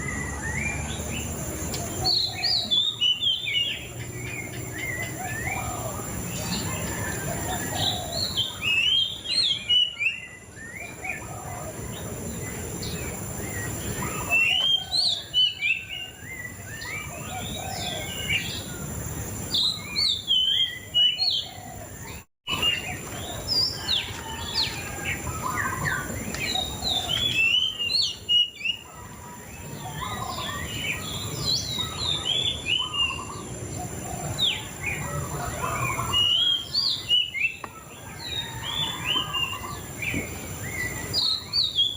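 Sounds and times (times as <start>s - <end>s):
songbird warbling chirps: 0.0s - 41.9s.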